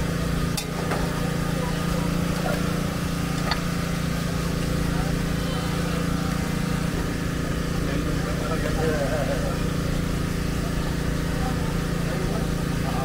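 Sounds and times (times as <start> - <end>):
people chattering: 0.0 - 13.0
small engine running: 0.0 - 13.0.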